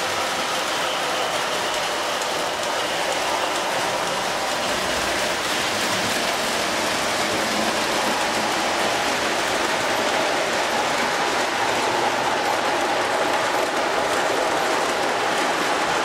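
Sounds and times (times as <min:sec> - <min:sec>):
model train rolling on track: 0:00.0 - 0:16.0.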